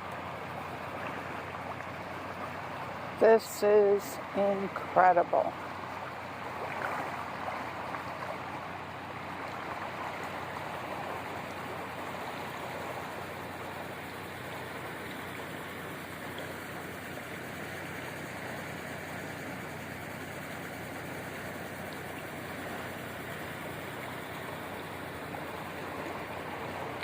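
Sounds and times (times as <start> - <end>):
rush of fast-flowing floodwater: 0.0 - 27.0.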